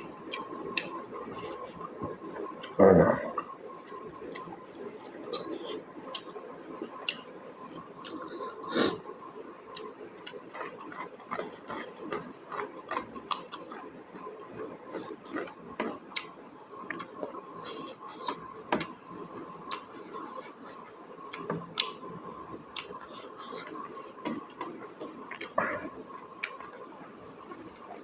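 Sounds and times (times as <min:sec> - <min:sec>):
person chewing food: 0:00.0 - 0:09.0, 0:09.7 - 0:28.0.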